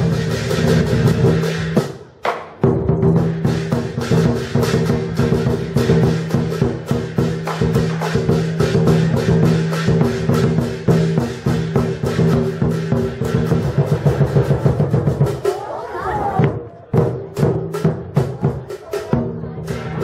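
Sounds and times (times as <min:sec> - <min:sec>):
drum beating fast: 0:00.0 - 0:20.0.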